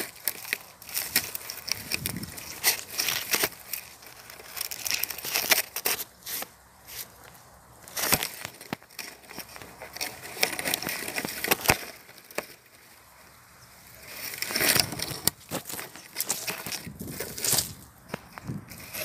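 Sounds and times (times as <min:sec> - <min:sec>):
rustling and crackling handling noise: 0:00.0 - 0:19.0.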